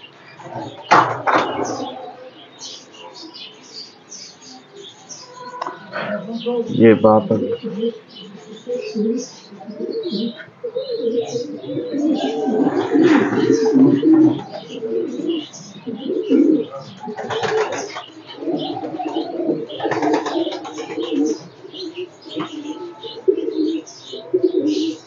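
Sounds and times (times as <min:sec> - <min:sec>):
pigeons cooing: 0:00.0 - 0:25.0.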